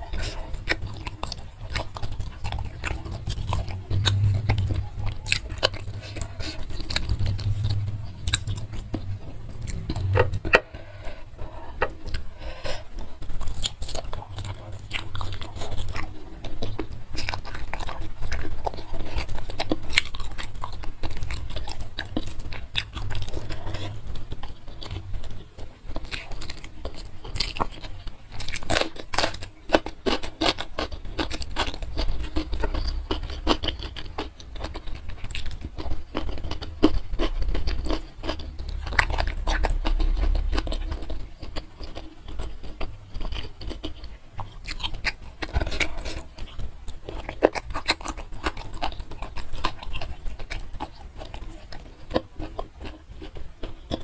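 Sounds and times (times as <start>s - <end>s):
wet chewing and biting: 0.0s - 54.0s.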